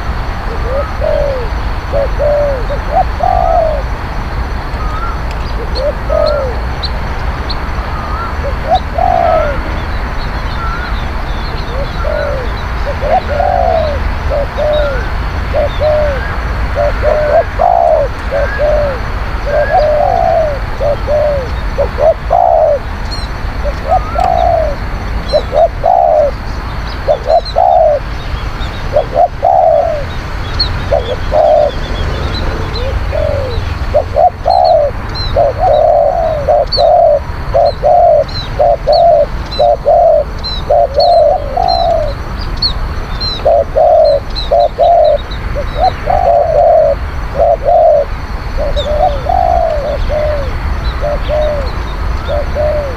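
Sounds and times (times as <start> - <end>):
doves cooing: 0.0 - 3.9, 4.7 - 28.2, 28.8 - 52.9
small birds chirping: 0.0 - 52.9.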